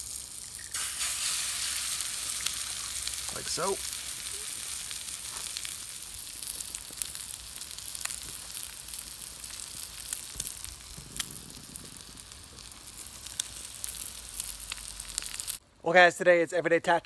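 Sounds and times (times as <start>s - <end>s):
food sizzling in a skillet: 0.0s - 15.6s
sharp pops and crackles: 0.0s - 15.6s.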